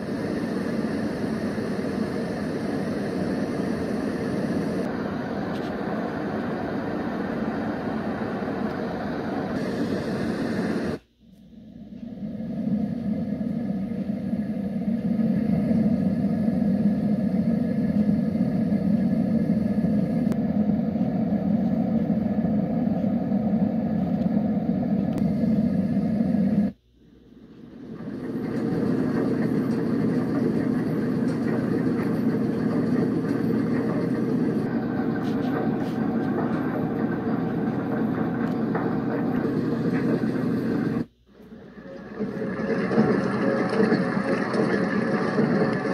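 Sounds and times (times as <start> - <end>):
sound machine noise: 0.0 - 26.8, 27.8 - 45.9.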